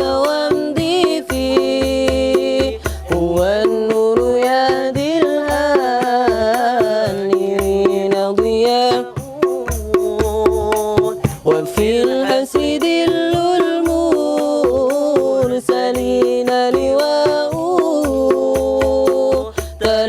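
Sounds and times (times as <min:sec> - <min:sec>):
drum beats: 0:00.0 - 0:20.0.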